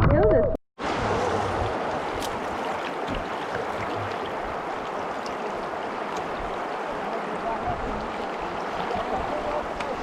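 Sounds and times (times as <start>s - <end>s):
river water rushing: 0.8s - 10.0s.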